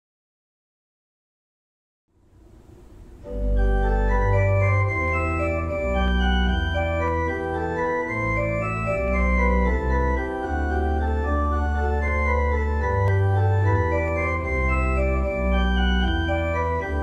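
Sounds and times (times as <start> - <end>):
organ chords: 2.5 - 17.0.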